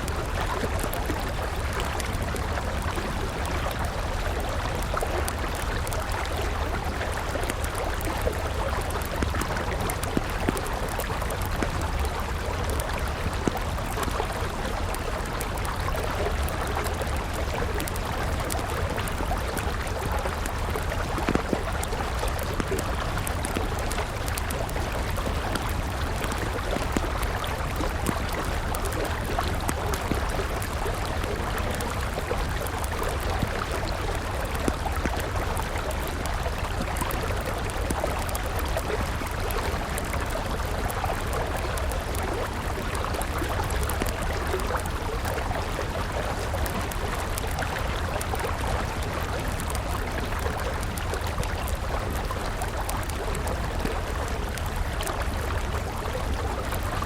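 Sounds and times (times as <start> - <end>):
campfire crackling: 0.0 - 57.0
river water flowing: 0.0 - 57.0.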